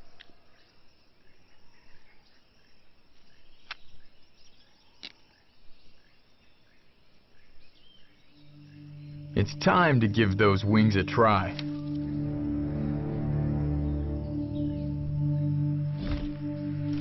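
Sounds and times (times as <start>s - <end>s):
bird chirps: 0.0s - 16.9s
insects: 0.0s - 17.0s.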